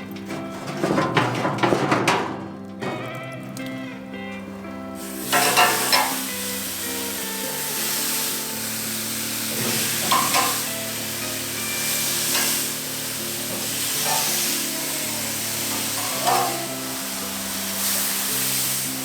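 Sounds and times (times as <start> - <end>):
background music: 0.0 - 19.0
chicken sizzling on a grill: 2.9 - 19.0.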